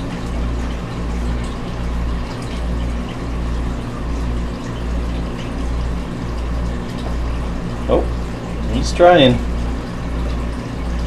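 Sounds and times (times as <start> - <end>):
pulsing low hum: 0.0 - 11.0
water trickling: 0.0 - 11.0.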